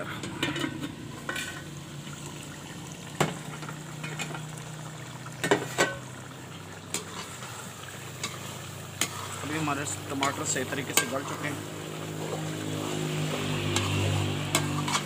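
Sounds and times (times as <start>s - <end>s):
food sizzling and bubbling: 0.0s - 15.0s.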